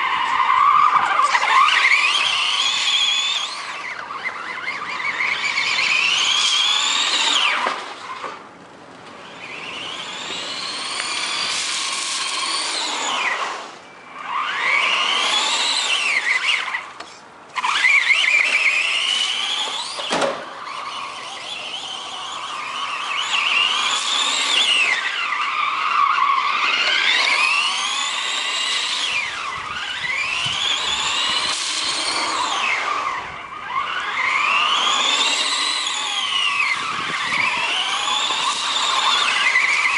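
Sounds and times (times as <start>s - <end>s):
electric motor whining: 0.0s - 8.4s, 9.1s - 39.9s.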